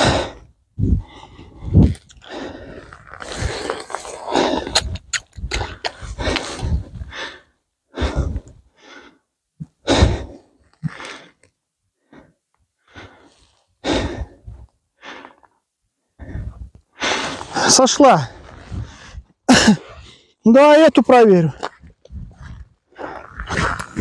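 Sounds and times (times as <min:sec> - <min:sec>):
man breathing heavily: 0:00.0 - 0:20.4, 0:21.7 - 0:24.0.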